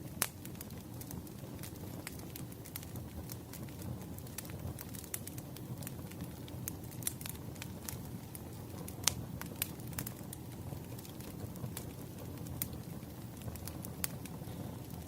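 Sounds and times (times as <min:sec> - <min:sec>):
fire rushing: 0:00.0 - 0:15.0
firewood crackling and popping: 0:00.0 - 0:15.0.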